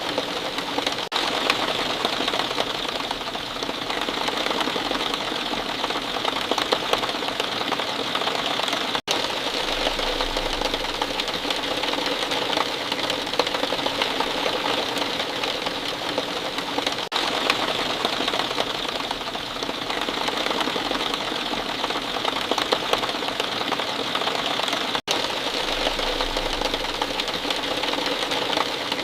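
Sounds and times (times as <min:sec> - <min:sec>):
heavy rain: 0:00.0 - 0:29.0.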